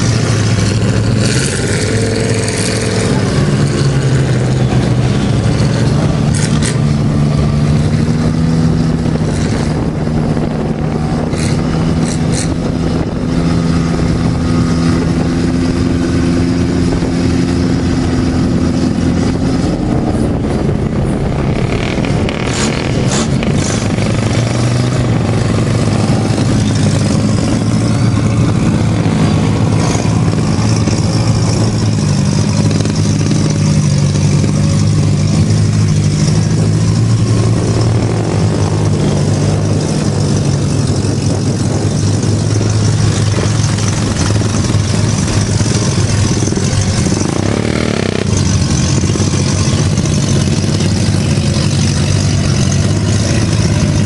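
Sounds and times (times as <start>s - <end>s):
truck engines running: 0.0s - 54.0s.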